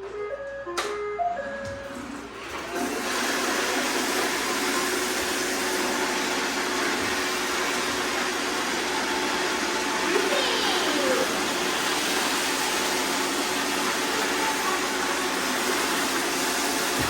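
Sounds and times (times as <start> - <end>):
robot vacuums whirring: 1.9 - 17.0.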